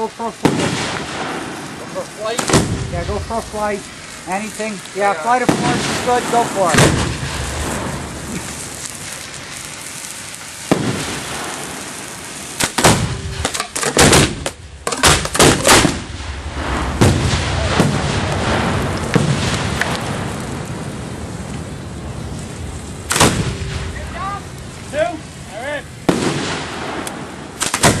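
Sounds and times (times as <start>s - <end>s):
firework bangs: 0.0s - 28.0s
steady hiss: 0.0s - 28.0s.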